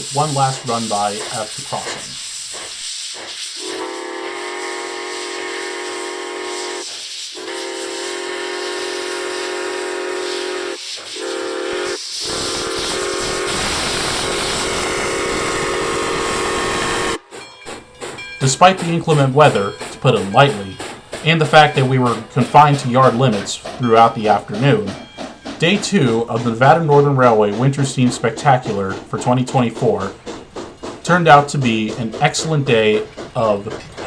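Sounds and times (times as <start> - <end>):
steam locomotive chime whistle: 0.0 - 2.3, 3.4 - 34.0
locomotive running noise: 0.0 - 34.0
steam hissing: 0.0 - 34.0.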